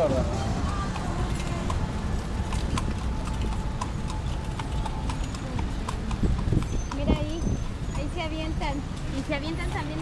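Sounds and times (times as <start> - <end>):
horse hooves on pavement: 0.0 - 10.0.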